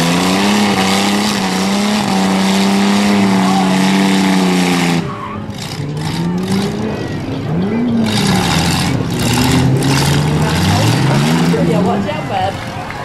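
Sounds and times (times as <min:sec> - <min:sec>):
engines revving hard: 0:00.0 - 0:13.0
tyres spinning in dirt: 0:00.0 - 0:13.0.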